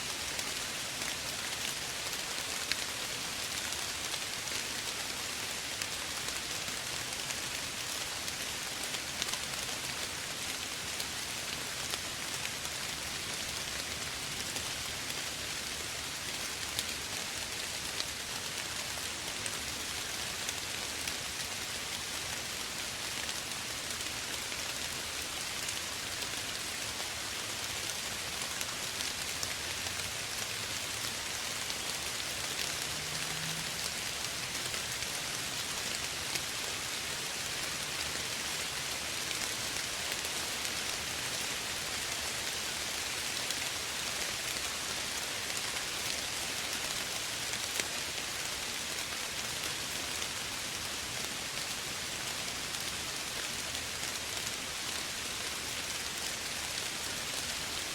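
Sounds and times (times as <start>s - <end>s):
gentle rain falling: 0.0s - 57.9s
raindrops ticking on a surface: 0.1s - 57.9s.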